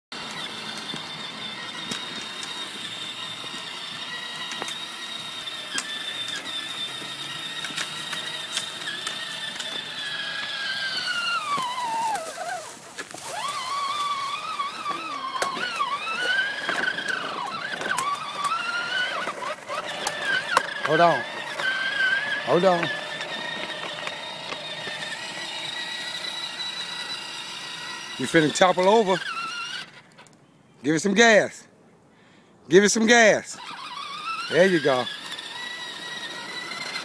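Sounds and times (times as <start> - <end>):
electric toy motor whining: 0.1 - 30.4, 33.1 - 37.0.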